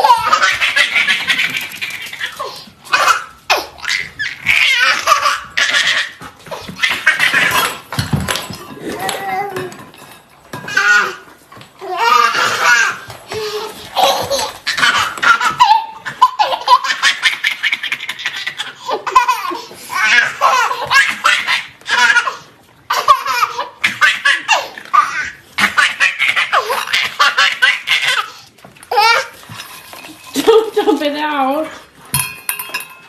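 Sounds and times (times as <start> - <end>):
baby laughing: 0.0 - 9.8, 10.7 - 29.5.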